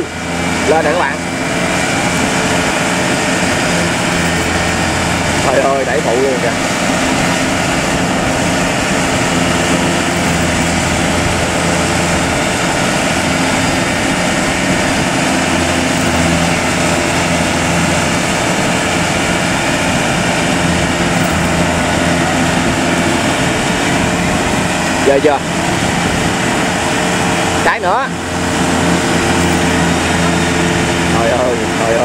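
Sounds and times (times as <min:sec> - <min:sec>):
diesel engines straining: 0:00.0 - 0:32.0.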